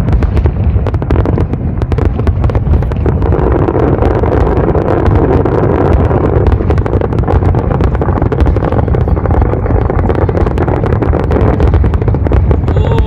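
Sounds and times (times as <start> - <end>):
fireworks crackling pops: 0.0 - 13.0
rumble of shell bursts: 0.0 - 13.0.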